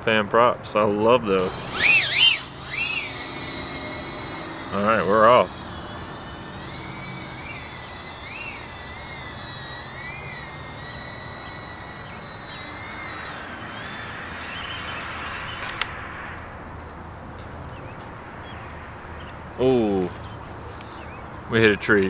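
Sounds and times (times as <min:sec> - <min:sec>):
drone crashing into tree: 0:01.4 - 0:20.6
drone motors whining: 0:01.4 - 0:21.5.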